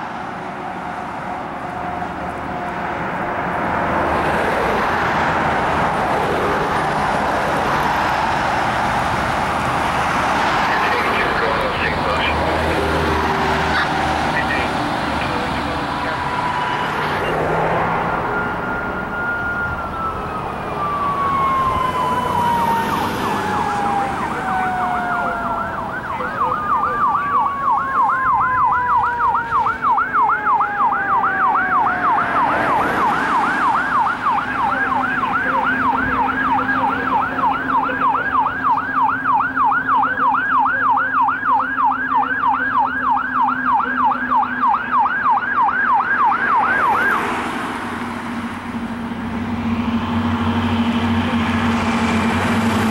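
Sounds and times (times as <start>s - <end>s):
fire engine siren: 0.0s - 52.9s.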